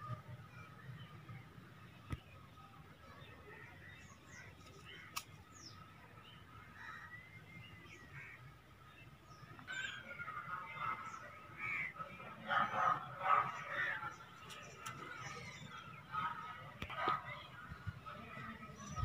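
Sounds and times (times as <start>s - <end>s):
bird calls and chirps: 0.1s - 19.0s.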